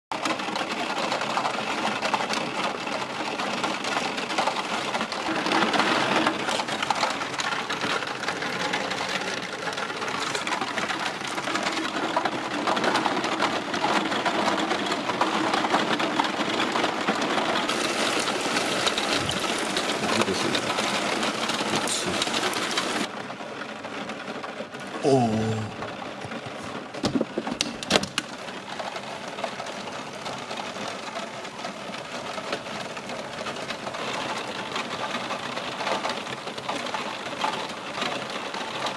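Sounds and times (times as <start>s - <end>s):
steady rain patter: 0.1s - 38.9s.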